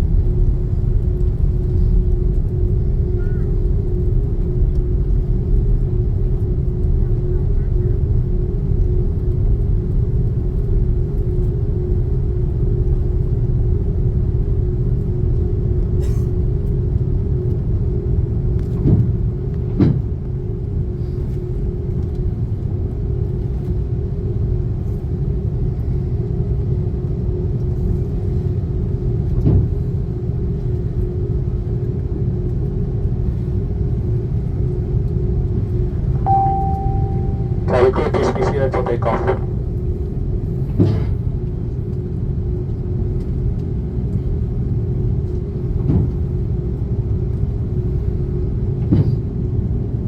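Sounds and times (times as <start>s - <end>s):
aircraft engine rumble: 0.0s - 50.0s
constant hum: 0.0s - 50.0s.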